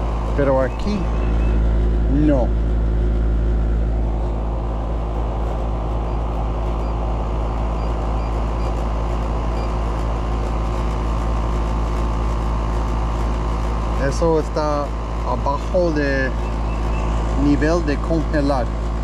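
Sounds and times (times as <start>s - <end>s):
compressor hum: 0.0s - 19.0s
condenser fan rushing: 0.0s - 19.0s.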